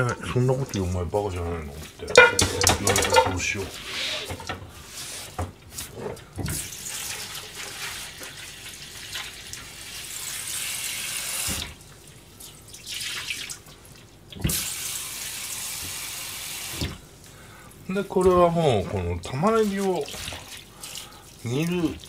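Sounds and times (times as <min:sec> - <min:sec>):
tap water running: 0:00.0 - 0:22.0.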